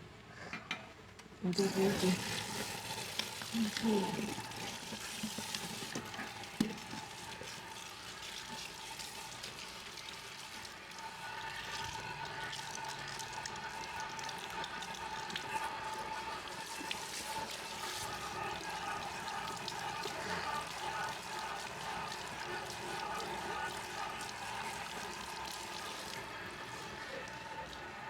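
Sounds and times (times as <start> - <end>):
water spraying onto hair: 1.5 - 28.0.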